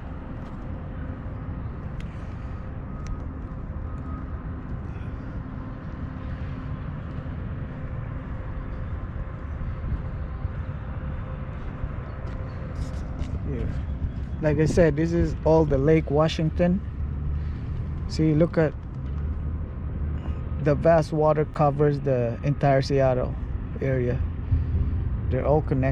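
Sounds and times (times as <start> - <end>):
outdoor background rumble: 0.0 - 25.9.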